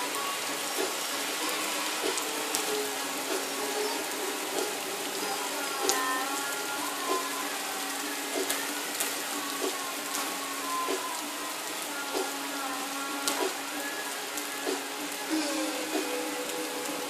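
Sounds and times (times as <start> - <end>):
rain hissing: 0.0 - 17.0
raindrops ticking on hard surface: 0.0 - 17.0.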